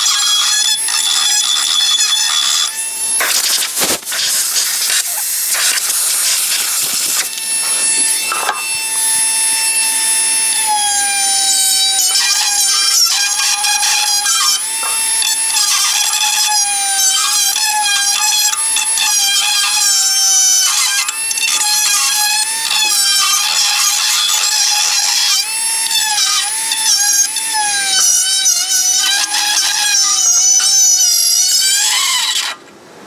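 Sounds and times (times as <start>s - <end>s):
power tool whining: 0.0s - 32.6s.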